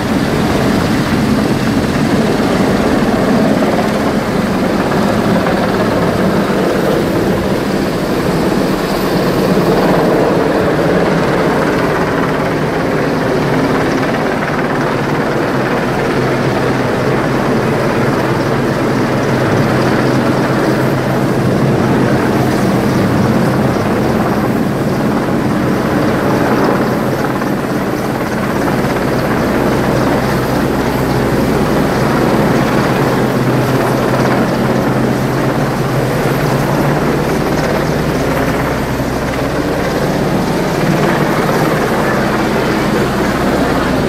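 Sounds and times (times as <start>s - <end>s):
helicopter flying overhead: 0.0s - 44.0s.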